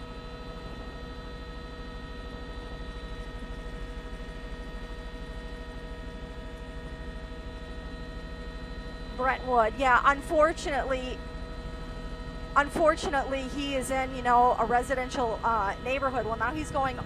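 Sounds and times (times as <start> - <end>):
helicopter cabin drone: 0.0 - 17.0.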